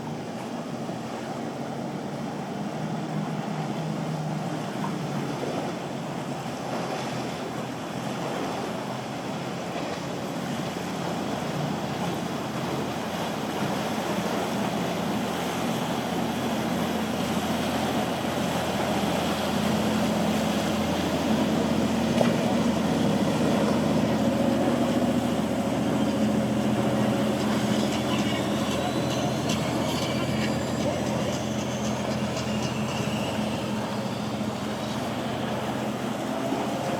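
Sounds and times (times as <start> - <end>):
boat engine running: 0.0 - 36.9
waves washing: 0.0 - 36.9
wind: 0.0 - 36.9.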